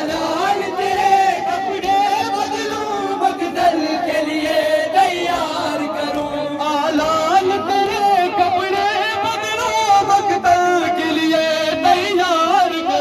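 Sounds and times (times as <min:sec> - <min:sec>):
man chanting unaccompanied: 0:00.0 - 0:13.0.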